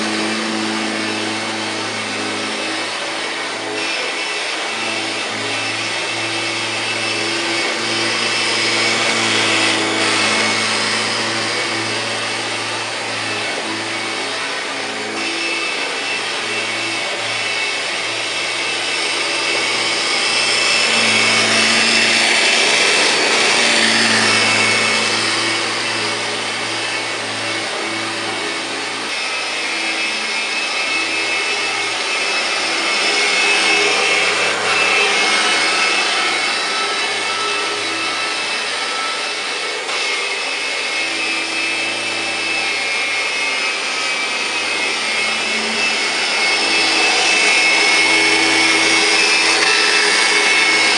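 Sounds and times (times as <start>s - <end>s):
vacuum cleaner on carpet: 0.0s - 50.9s.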